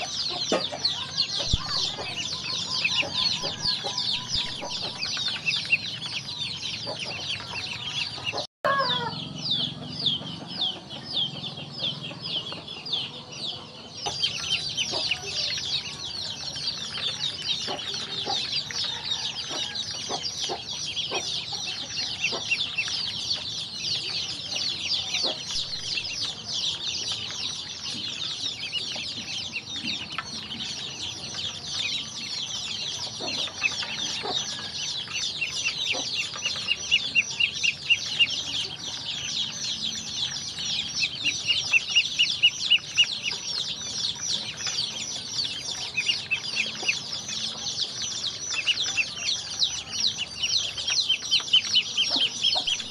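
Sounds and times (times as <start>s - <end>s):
ducklings peeping: 0.0s - 52.9s.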